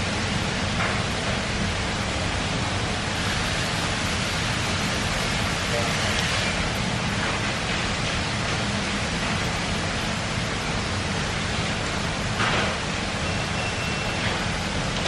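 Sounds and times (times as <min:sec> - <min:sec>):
steady rushing noise: 0:00.0 - 0:12.5.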